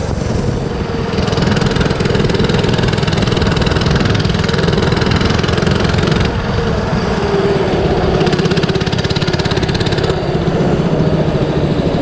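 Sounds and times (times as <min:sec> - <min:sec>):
mini bike engine revving: 0:00.0 - 0:12.0.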